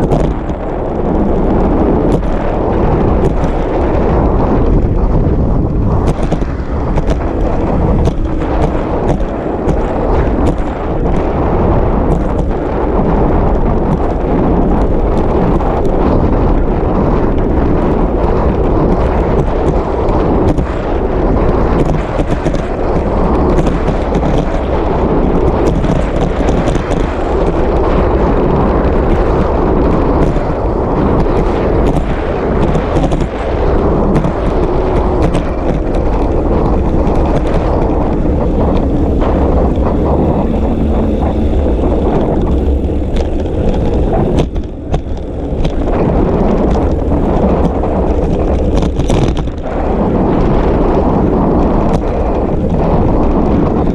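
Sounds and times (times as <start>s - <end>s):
bike knocks and rattles: 0.0s - 53.9s
road rumble: 0.0s - 53.9s
wind buffeting microphone: 0.0s - 53.9s.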